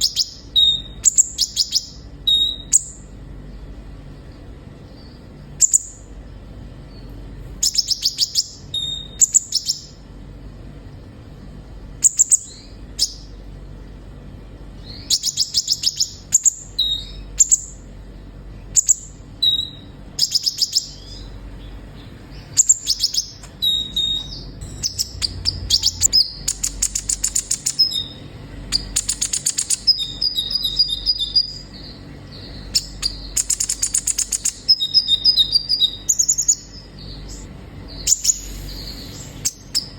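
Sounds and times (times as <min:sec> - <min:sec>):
bird singing chips and trills: 0:00.0 - 0:03.6, 0:04.3 - 0:10.0, 0:12.0 - 0:13.4, 0:14.8 - 0:17.9, 0:18.7 - 0:39.9.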